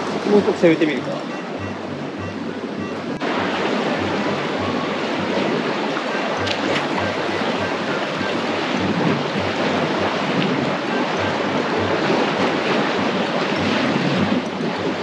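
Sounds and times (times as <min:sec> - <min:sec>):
waves breaking on rocks: 0:00.0 - 0:01.6, 0:03.2 - 0:15.0
wind gusting on microphone: 0:00.0 - 0:15.0.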